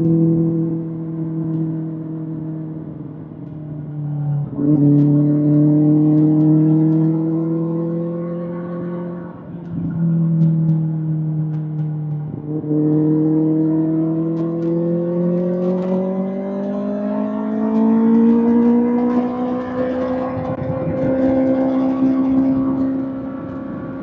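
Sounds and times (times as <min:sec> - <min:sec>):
motorcycle engine revving: 0:04.5 - 0:24.0.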